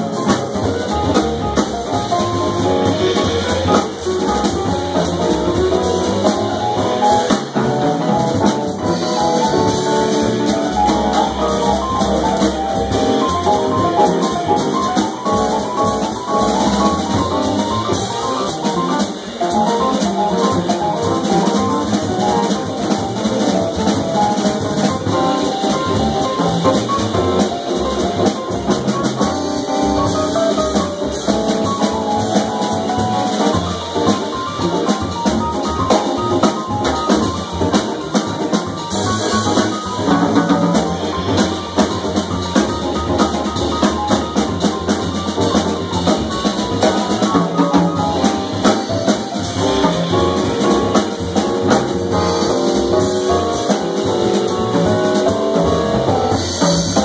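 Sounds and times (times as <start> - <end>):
drum kit: 0.0 - 57.0
keyboard jazz solo: 0.0 - 57.0
upright bass: 0.0 - 57.0.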